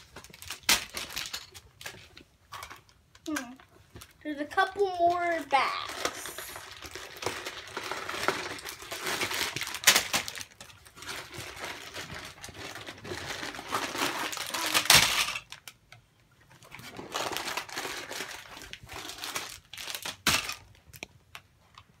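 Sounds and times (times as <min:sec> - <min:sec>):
plastic bags and paper crinkling: 0:00.0 - 0:15.8, 0:16.5 - 0:22.0.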